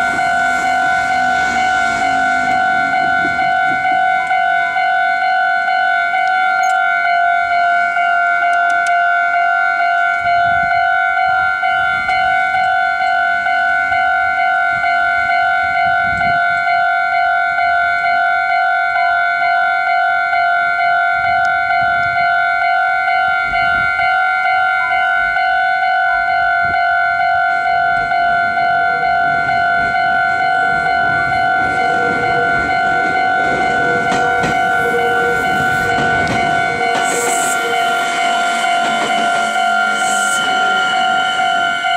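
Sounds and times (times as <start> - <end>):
electric train rumble: 0.0 - 41.9
level crossing alarm dinging: 0.0 - 41.9.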